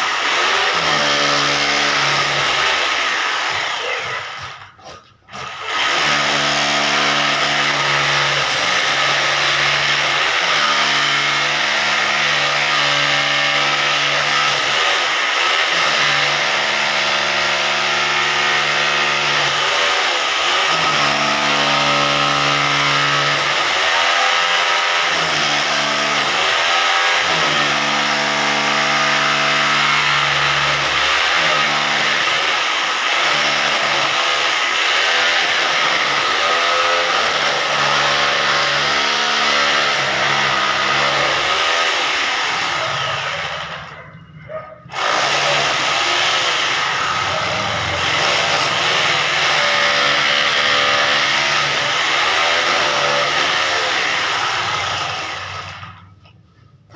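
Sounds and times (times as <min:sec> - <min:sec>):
hammer drill motor cutting: 0:00.0 - 0:44.0, 0:44.9 - 0:56.1.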